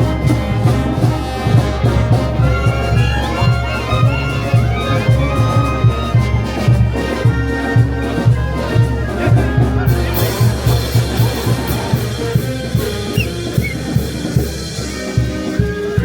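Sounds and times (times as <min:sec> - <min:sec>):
brass band playing: 0:00.0 - 0:16.0
drums keeping a steady beat: 0:00.0 - 0:16.0.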